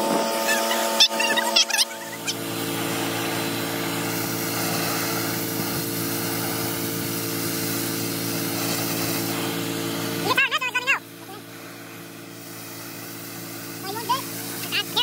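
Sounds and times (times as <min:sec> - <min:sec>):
pressure washer motor drone: 0:00.0 - 0:15.0
water jet spraying on metal: 0:00.0 - 0:15.0.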